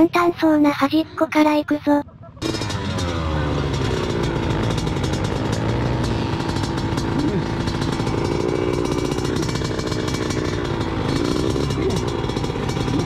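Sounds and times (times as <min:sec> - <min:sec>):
motorcycle engine revving: 0:02.1 - 0:13.0.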